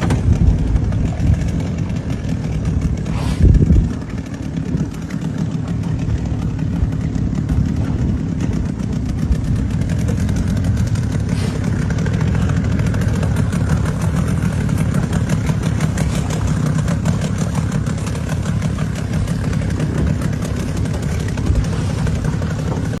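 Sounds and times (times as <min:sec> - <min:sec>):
small motor engine running: 0:00.0 - 0:23.0.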